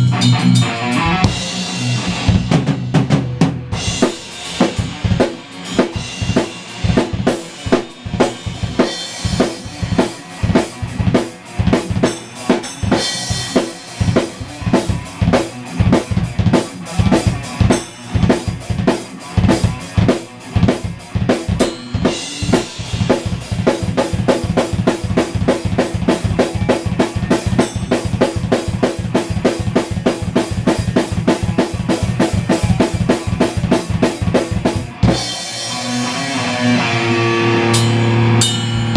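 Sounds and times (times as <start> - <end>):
drum kit rock groove: 0.0 - 38.9.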